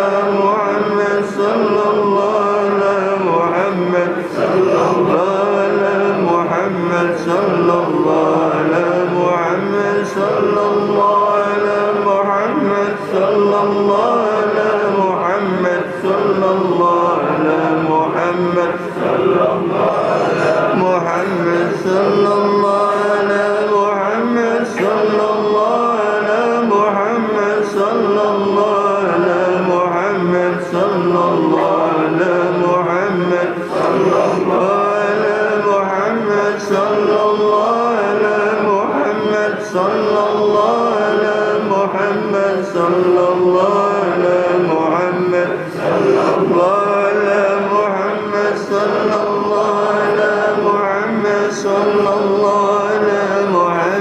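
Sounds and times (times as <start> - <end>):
person chanting melodically: 0.0 - 54.0.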